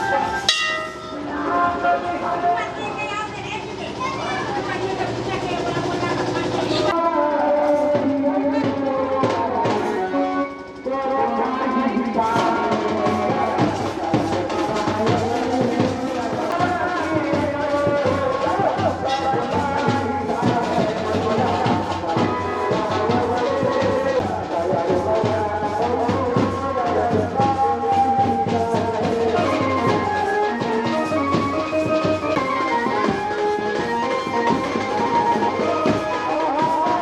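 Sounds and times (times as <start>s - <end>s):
fast drumbeat: 2.1s - 7.0s, 7.6s - 37.0s.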